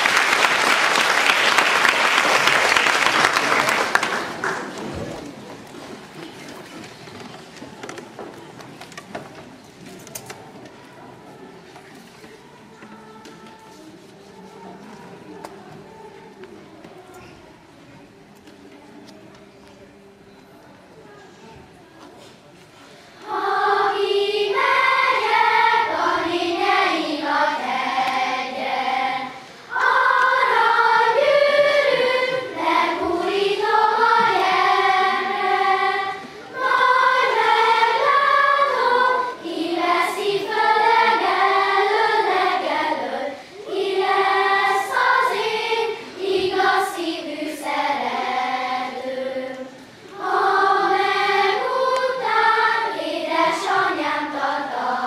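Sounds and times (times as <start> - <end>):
children's choir singing folk songs: 0.0 - 55.0.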